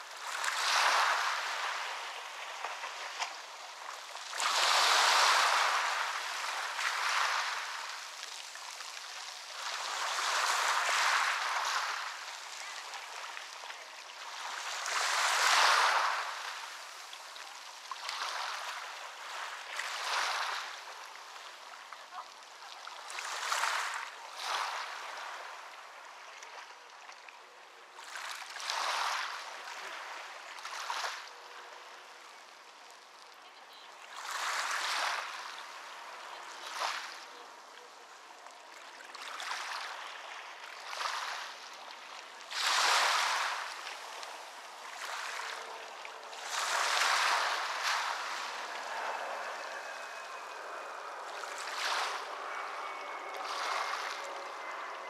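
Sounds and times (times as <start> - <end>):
ocean waves washing onto beach: 0.0 - 27.0, 27.8 - 55.0.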